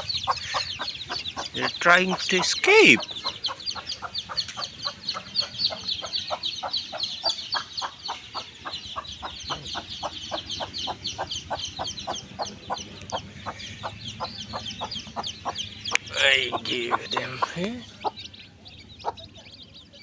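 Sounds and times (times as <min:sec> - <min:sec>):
chicks peeping: 0:00.0 - 0:20.0
hen clucking: 0:00.0 - 0:20.0.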